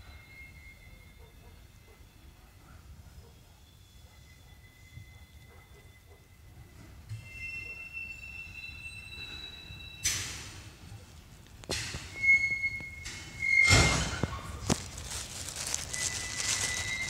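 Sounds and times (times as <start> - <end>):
wheel squeals: 0.0 - 2.2, 3.8 - 10.9, 11.7 - 17.0.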